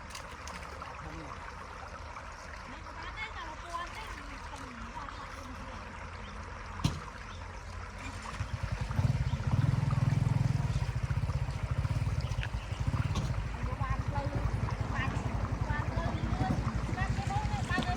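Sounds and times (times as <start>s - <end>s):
water flowing and trickling: 0.0s - 17.9s.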